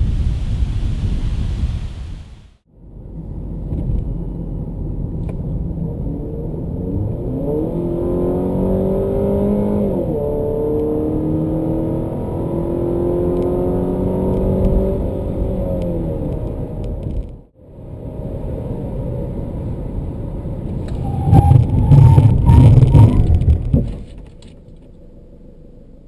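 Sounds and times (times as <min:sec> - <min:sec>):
car engine accelerating: 0:03.0 - 0:26.0.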